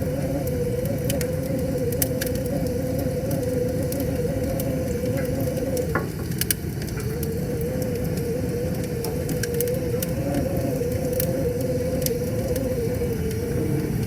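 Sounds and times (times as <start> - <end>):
faint wavering hum: 0.0 - 14.0
wood fire crackling: 0.0 - 14.0.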